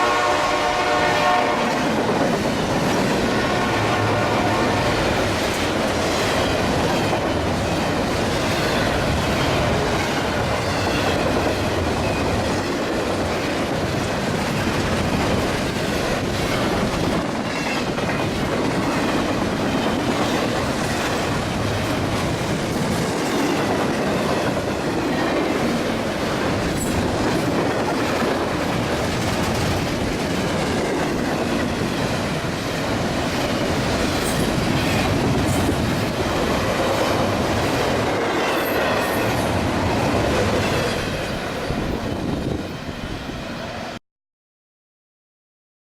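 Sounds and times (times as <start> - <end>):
train cars rumbling past: 0.0 - 44.0.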